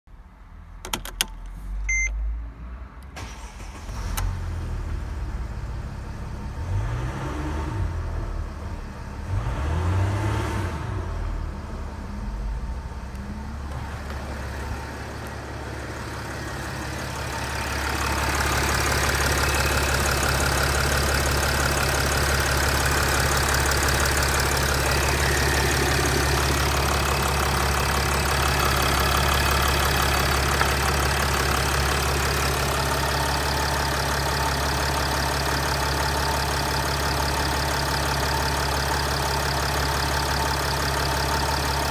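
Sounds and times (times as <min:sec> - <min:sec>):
diesel engine starting and idling: 0:00.7 - 0:41.9.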